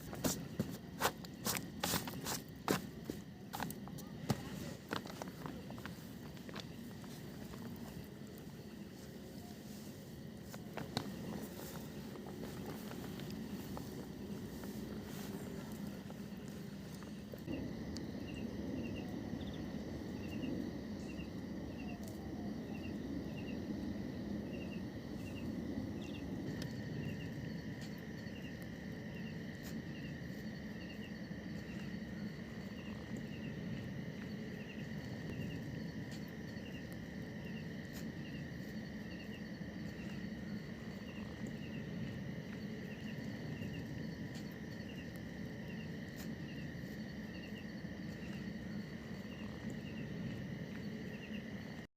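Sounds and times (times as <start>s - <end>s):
insects double chirping: 0.0s - 51.9s
low background rumble: 0.0s - 51.9s.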